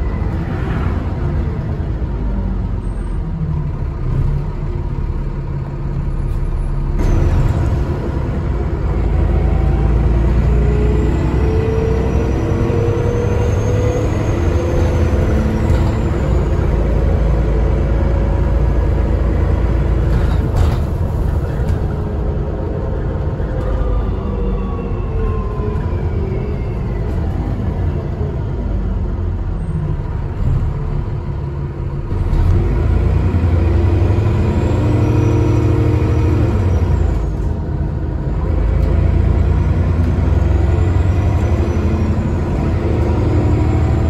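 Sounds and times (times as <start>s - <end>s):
bus engine rumble: 0.0s - 44.0s.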